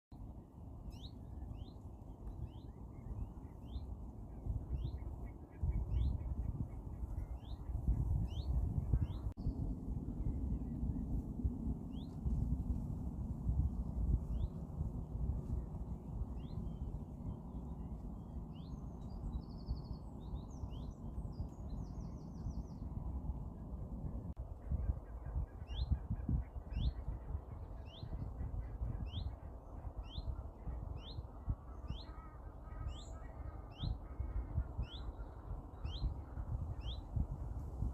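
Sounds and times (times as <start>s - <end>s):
steady low rumble: 0.2s - 37.9s
songbirds chirping and trilling: 0.8s - 9.7s, 15.5s - 37.9s.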